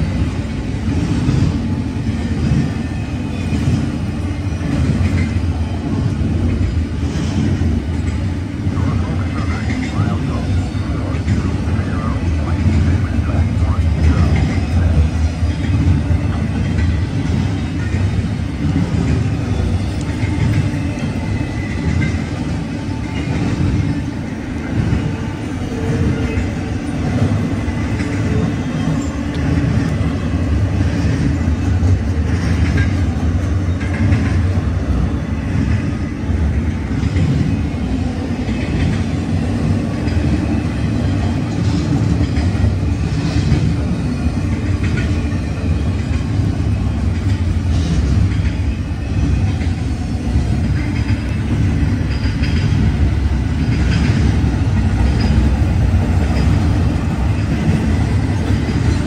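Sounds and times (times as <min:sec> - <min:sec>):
freight train rumbling on rails: 0:00.0 - 0:59.0
train wheels clicking: 0:00.0 - 0:59.0.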